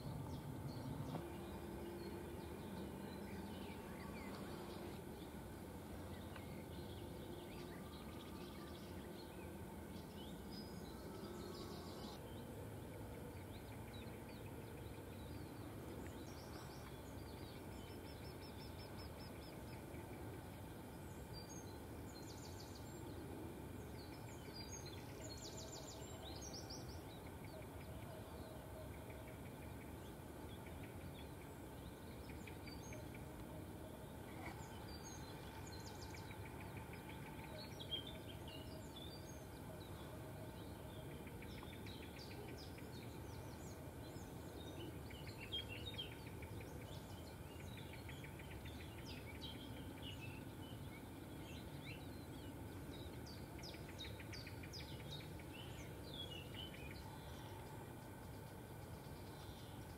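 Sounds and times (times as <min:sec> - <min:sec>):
low background noise: 0:00.0 - 0:59.9
songbirds calling: 0:00.0 - 0:59.9.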